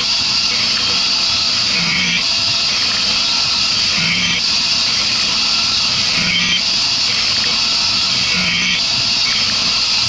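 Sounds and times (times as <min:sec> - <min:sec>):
low machine hum: 0:00.0 - 0:10.0
milling machine cutting metal: 0:00.0 - 0:10.0.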